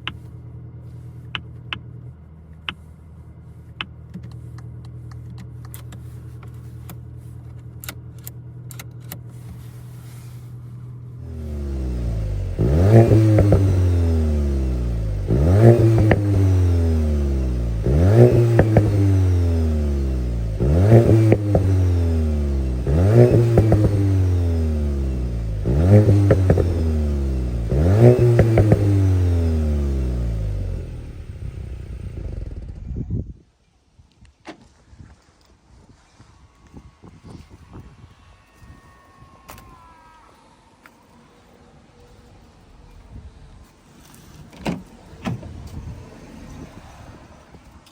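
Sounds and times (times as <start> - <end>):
car engine idling and revving: 0.0 - 33.3, 40.8 - 47.9.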